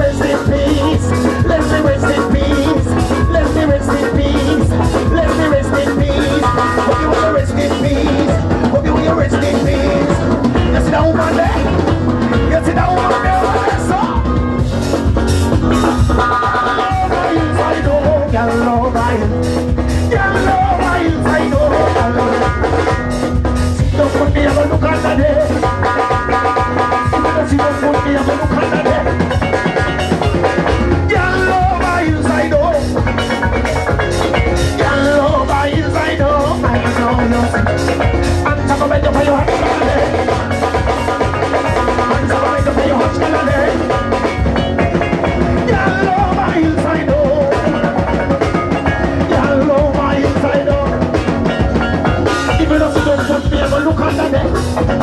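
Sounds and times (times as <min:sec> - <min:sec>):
ska band music: 0:00.0 - 0:55.0.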